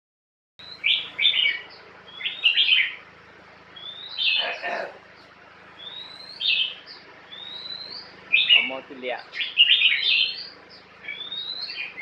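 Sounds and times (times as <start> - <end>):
faint low hum: 0.6 - 12.0
songbird singing: 0.6 - 12.0.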